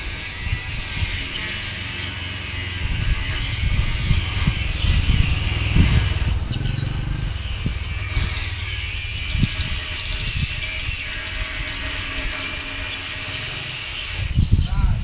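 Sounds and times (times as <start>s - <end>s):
diesel engine cranking: 0.0s - 14.6s.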